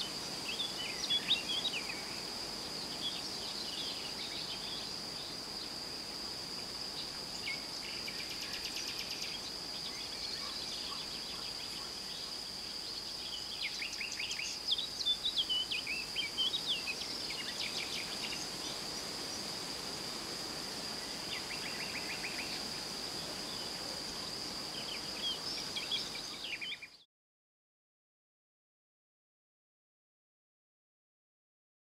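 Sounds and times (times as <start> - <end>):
songbirds chirping: 0.0 - 19.6, 20.8 - 27.0
high-pitched insect trill: 0.0 - 27.0.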